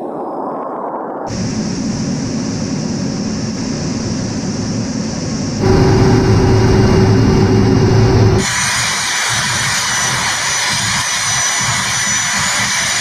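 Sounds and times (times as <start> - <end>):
military aircraft engine: 1.3 - 13.0.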